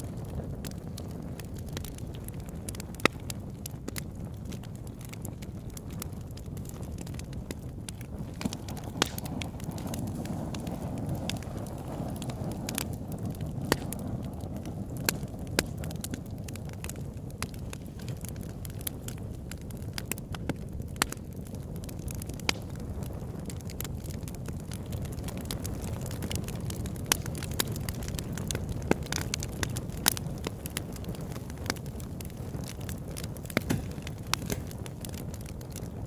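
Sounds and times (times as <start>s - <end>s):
burning wood crackling: 0.0s - 36.0s
campfire flames rushing: 0.0s - 36.0s.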